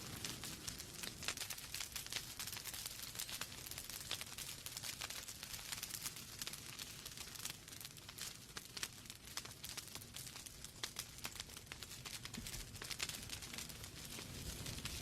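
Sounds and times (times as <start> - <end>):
fireplace logs crackling: 0.0 - 15.0.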